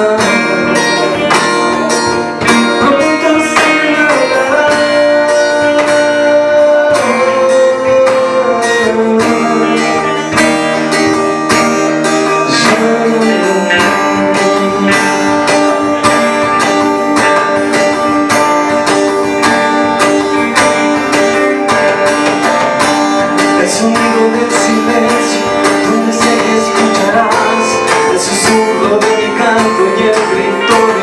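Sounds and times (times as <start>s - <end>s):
strummed acoustic guitar: 0.0s - 31.0s.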